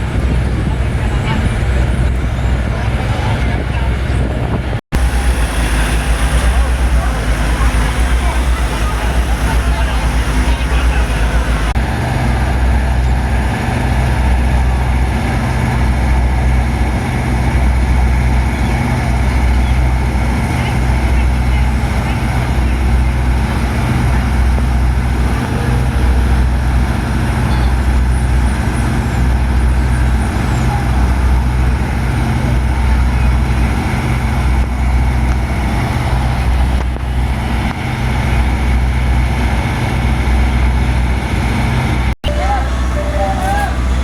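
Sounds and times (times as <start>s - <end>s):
truck engine low throbbing hum: 0.0s - 44.0s
steady drone: 4.9s - 44.0s.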